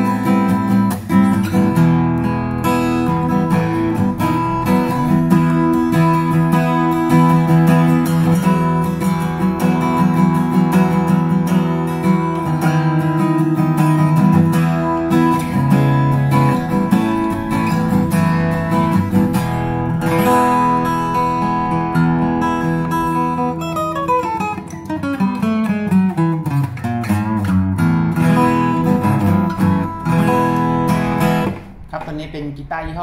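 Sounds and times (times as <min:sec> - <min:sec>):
acoustic guitar strummed chords: 0:00.0 - 0:32.1.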